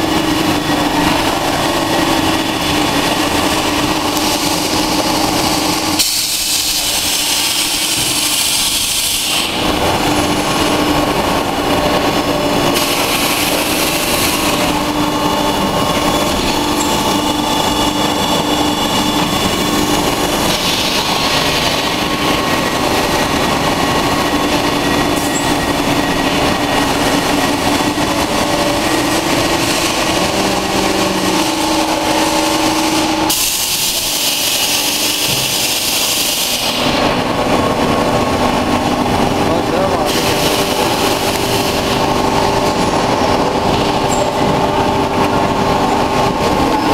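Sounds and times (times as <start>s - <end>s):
industrial machinery hum: 0.0s - 46.9s.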